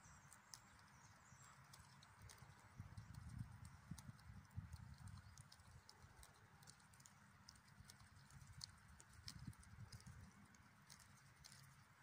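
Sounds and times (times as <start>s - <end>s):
goose cropping grass clicks: 0.0s - 12.0s.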